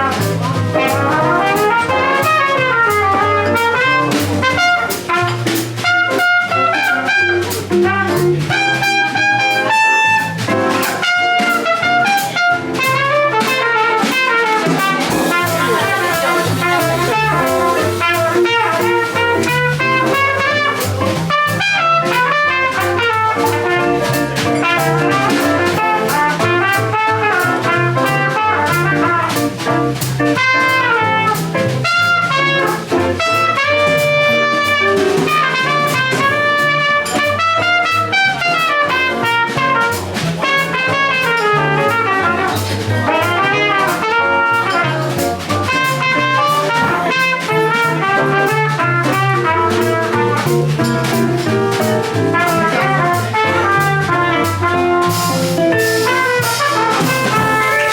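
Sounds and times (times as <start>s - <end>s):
bass line: 0.0s - 8.8s, 9.4s - 37.0s, 39.3s - 57.9s
drum kit with cymbals: 0.0s - 57.9s
horn melody: 0.8s - 29.7s, 30.3s - 57.9s.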